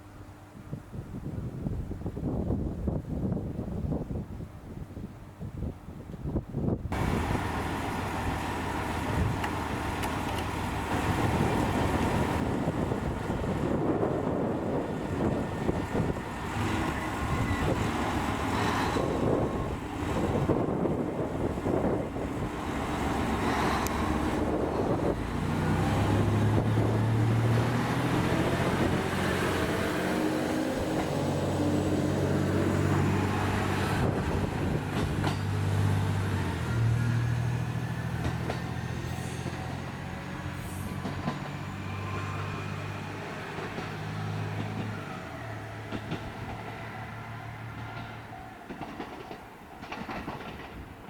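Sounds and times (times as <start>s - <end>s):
train low drone: 0.0s - 51.0s
train rumbling: 0.0s - 51.0s.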